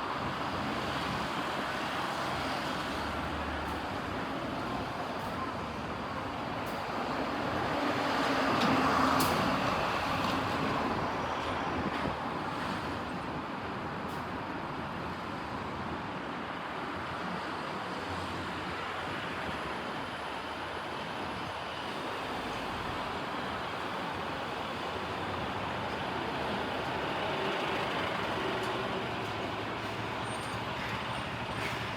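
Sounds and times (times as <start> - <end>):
road traffic hum: 0.1 - 31.9.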